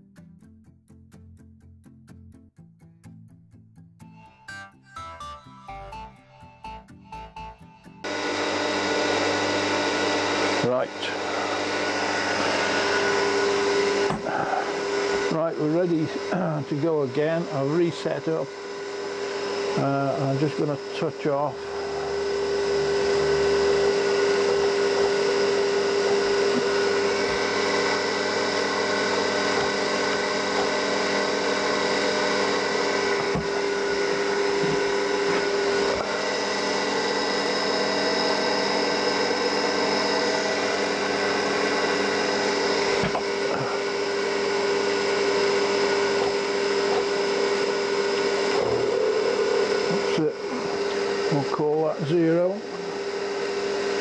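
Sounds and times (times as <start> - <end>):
mill spindle motor whine: 8.0 - 54.0.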